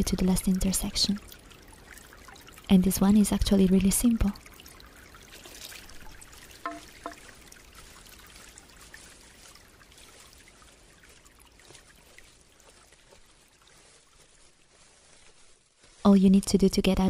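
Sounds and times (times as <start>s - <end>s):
tiny water drips: 0.0s - 16.0s
faint trickling water: 0.0s - 17.0s.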